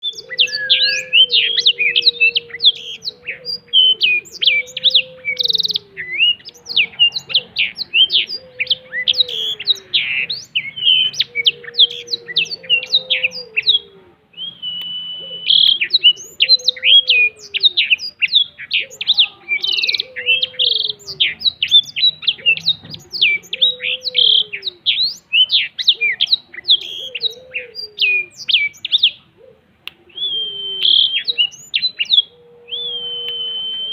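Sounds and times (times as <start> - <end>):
lower falling bird call: 0.0 - 29.3, 29.9 - 33.9
canary singing: 0.0 - 33.9.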